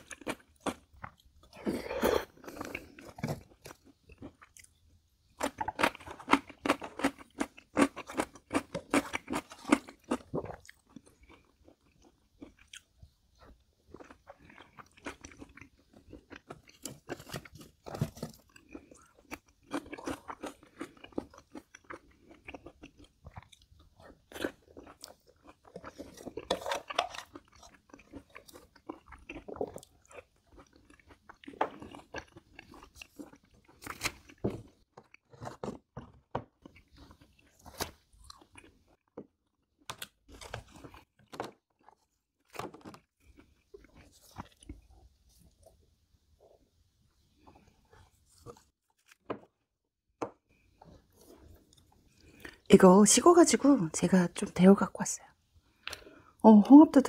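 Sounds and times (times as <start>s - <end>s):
person chewing and crunching food: 0.0s - 49.7s, 50.3s - 53.0s, 55.3s - 56.8s.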